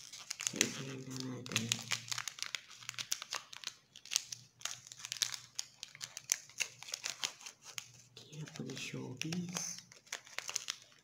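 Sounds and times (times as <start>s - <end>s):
wrapper crinkling: 0.0s - 11.0s.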